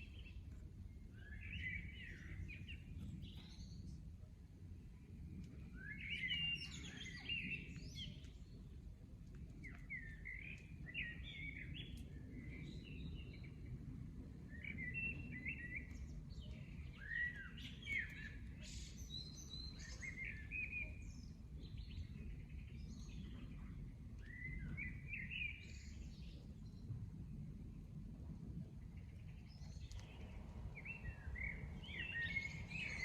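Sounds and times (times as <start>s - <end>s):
small birds chirping and singing: 0.0s - 27.0s, 28.8s - 33.0s
low background rumble: 0.0s - 33.0s.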